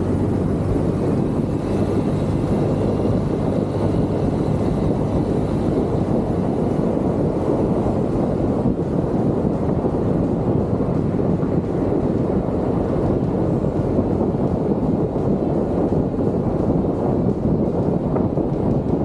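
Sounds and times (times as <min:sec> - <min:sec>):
scooter engine running: 0:00.0 - 0:19.0
wind rushing on microphone: 0:00.0 - 0:19.0.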